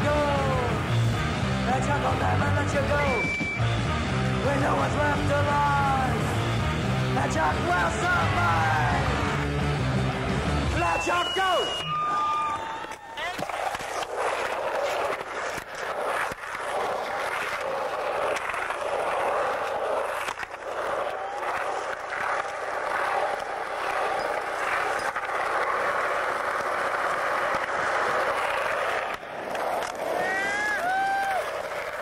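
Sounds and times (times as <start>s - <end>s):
skateboard wheels rolling on concrete: 0.0s - 32.0s.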